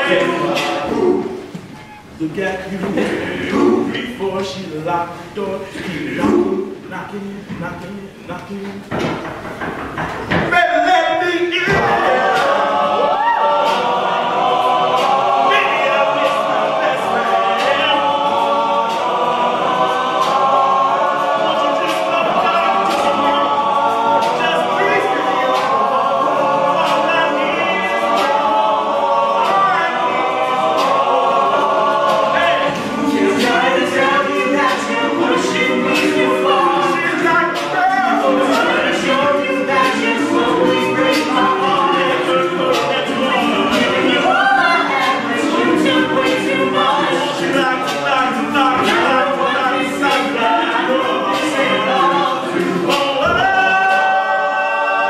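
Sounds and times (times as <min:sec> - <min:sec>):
men singing a cappella: 0:00.0 - 0:01.6, 0:02.2 - 0:09.5, 0:10.4 - 0:55.0.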